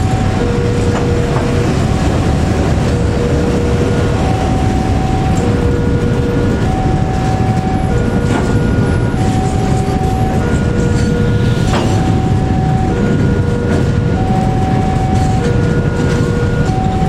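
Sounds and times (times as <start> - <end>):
two-tone warning alarm: 0.0 - 17.0
wheels rumbling on rail: 0.0 - 17.0.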